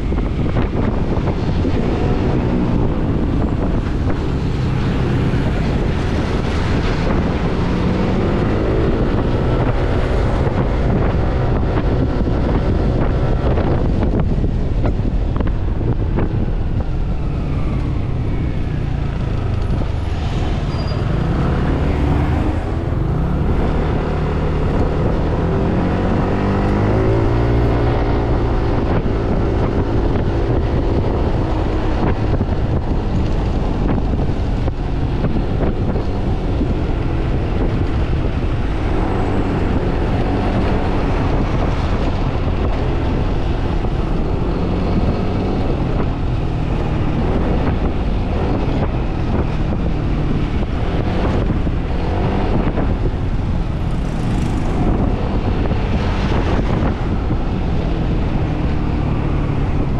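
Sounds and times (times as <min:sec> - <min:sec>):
road noise: 0:00.0 - 0:59.9
wind rushing over microphone: 0:00.0 - 0:59.9.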